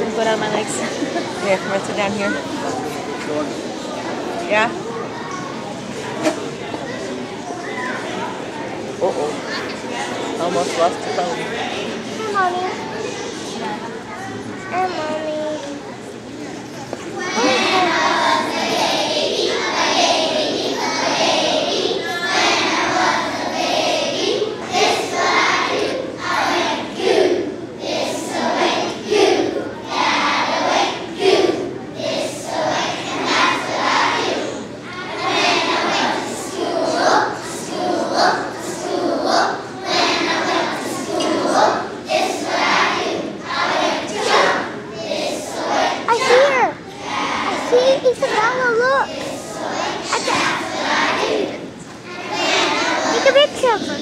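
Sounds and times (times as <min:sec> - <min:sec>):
children's voices overlapping: 0:00.0 - 0:54.0.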